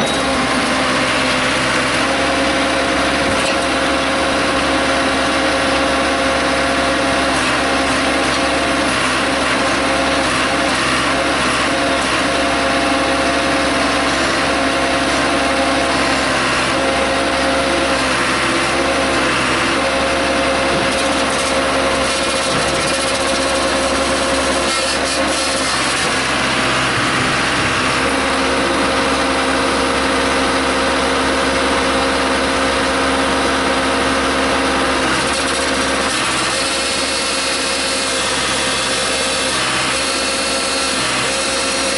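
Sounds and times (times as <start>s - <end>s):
backhoe engine running: 0.0s - 41.9s.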